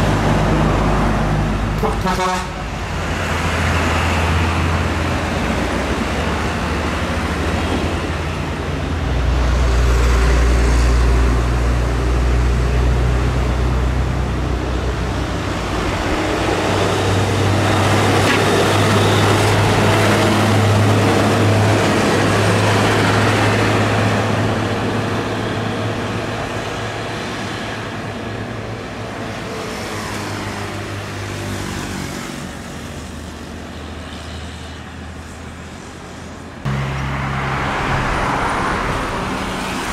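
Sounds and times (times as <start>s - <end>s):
diesel truck engine drone: 0.0s - 39.9s
road and tyre noise: 0.0s - 39.9s.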